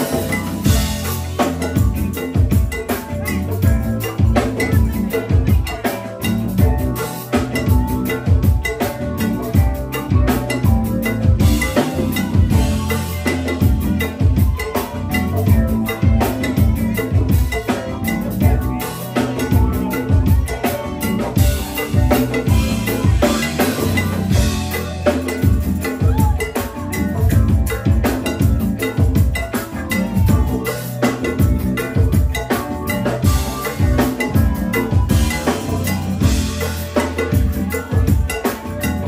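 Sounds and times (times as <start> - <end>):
drum kit beat: 0.0 - 39.0
heavy bass line: 0.0 - 39.0.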